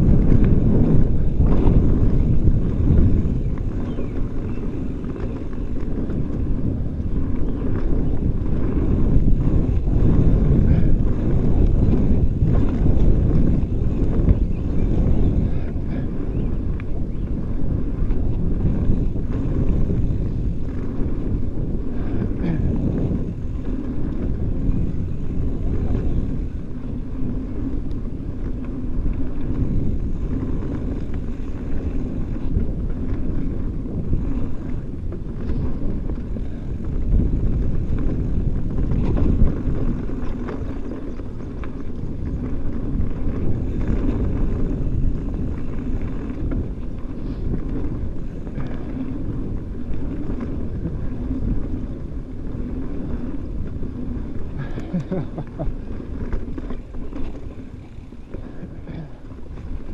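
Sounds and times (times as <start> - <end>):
bike knocking and rattling: 0.0 - 59.9
tyre rumble: 0.0 - 59.9
wind rush on microphone: 0.0 - 59.9.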